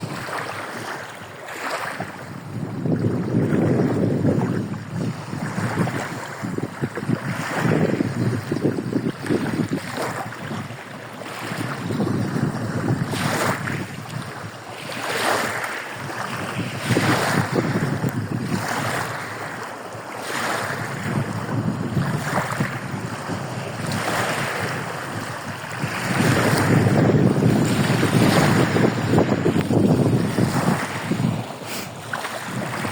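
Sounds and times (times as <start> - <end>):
small waves breaking: 0.0 - 32.9
wind on microphone: 0.0 - 32.9.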